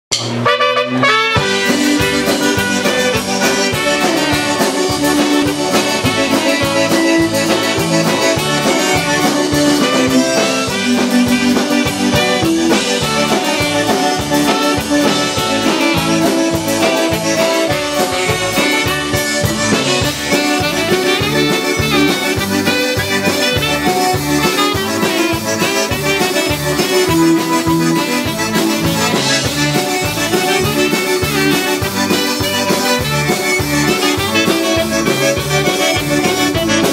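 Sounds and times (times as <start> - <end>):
drum kit beat: 0.1 - 36.9
electric bass: 0.1 - 36.9
button accordion: 0.4 - 36.9
saxophone: 0.4 - 36.9.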